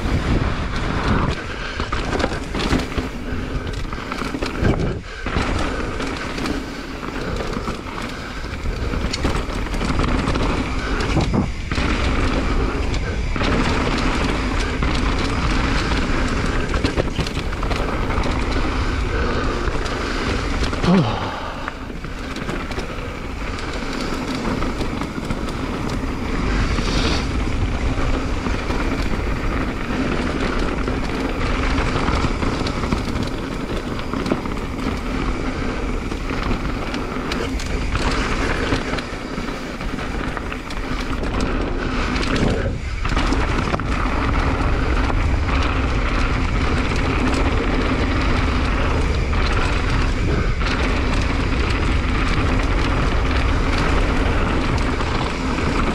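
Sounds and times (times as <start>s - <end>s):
bike tyres on dirt: 0.0s - 55.9s
wind rumble on microphone: 0.0s - 55.9s.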